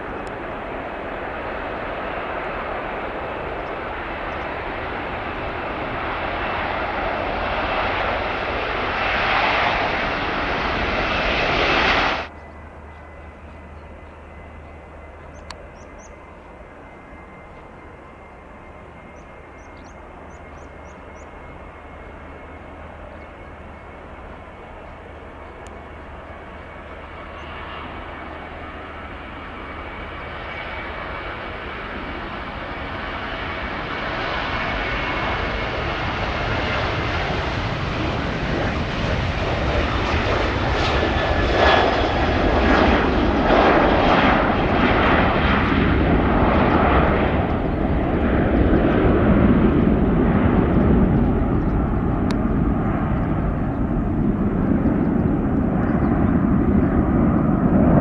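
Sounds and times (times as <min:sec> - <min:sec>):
jet engines at takeoff: 0:00.0 - 0:58.0.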